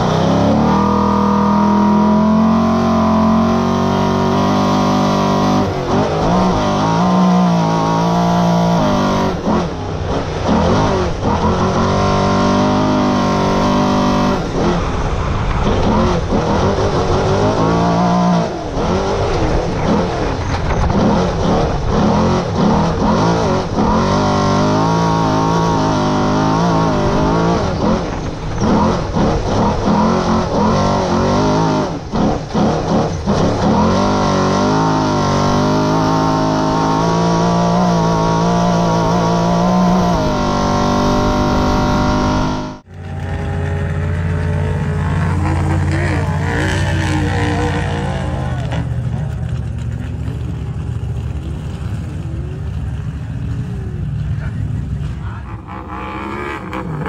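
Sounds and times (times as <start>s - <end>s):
race vehicle engine revving: 0.0s - 57.0s.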